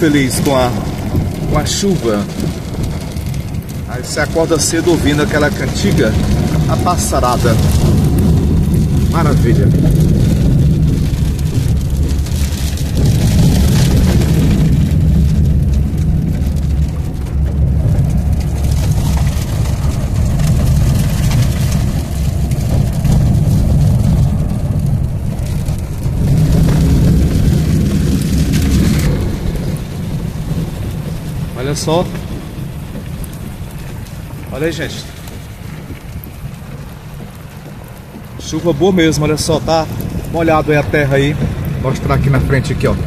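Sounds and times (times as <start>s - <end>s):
car engine and tyres rumbling: 0.0s - 43.0s
rain hitting car windscreen: 0.0s - 43.0s.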